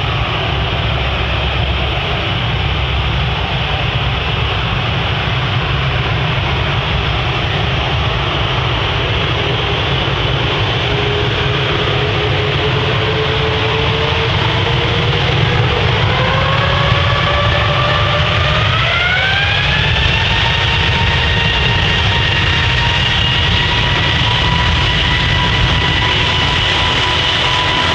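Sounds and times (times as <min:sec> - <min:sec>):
turboprop airliner engines at takeoff: 0:00.0 - 0:27.9.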